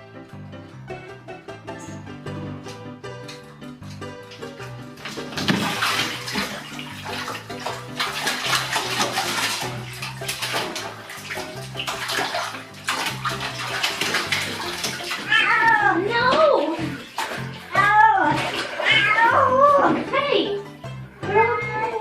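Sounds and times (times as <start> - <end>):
low background melody: 0.0 - 22.0
water splashing in a bath: 2.6 - 22.0.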